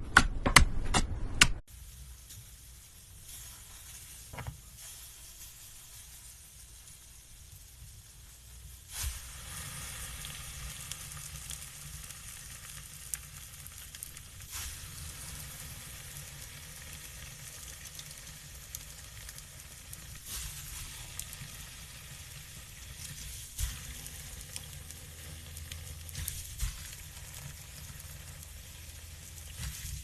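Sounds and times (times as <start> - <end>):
fine crackling and sizzling: 1.7 - 30.0.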